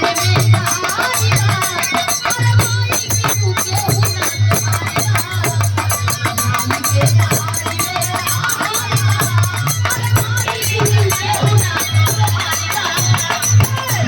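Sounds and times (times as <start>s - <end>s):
jingling hand percussion: 0.0s - 14.0s.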